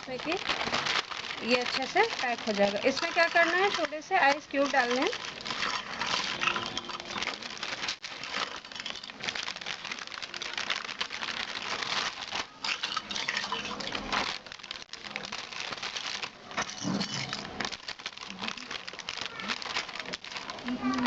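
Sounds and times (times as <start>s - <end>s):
plastic bag crinkling: 0.0s - 21.0s
ice cubes clicking: 0.2s - 21.0s.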